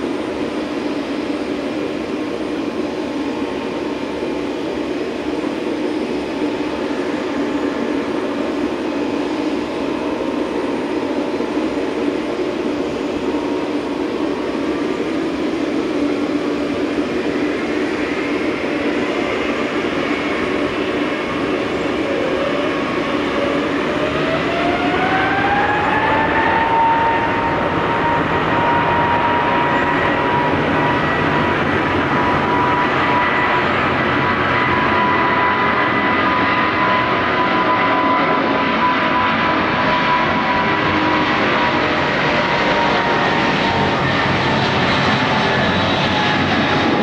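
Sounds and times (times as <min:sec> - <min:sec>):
jet engine rumble: 0:00.0 - 0:47.0
jet engine whine: 0:00.0 - 0:47.0.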